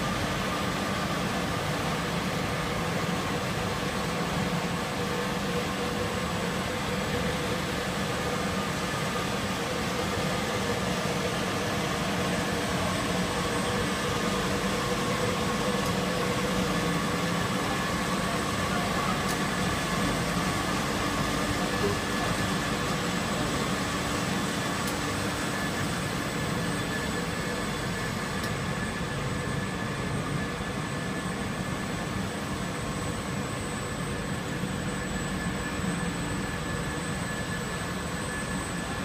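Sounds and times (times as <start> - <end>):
high-pitched machine whines: 0.0 - 39.0.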